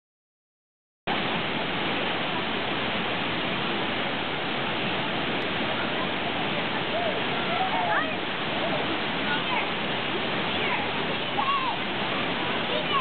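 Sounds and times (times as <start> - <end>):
waterfall rushing: 1.1 - 13.0.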